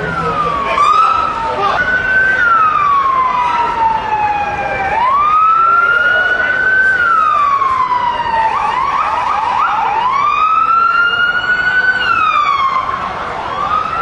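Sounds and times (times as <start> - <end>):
police siren wailing: 0.0 - 14.0
siren rapid yelps: 0.0 - 14.0.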